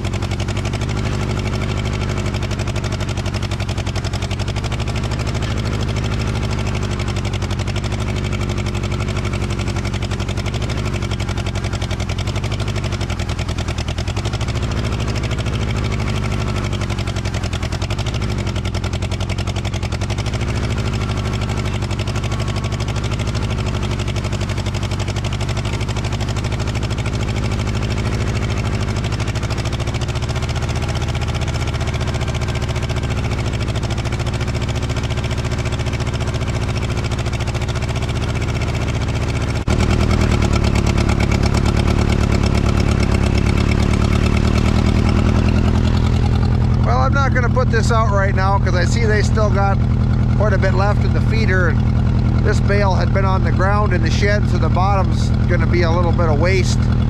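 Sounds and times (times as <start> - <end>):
engine running with a miss: 0.0 - 57.0.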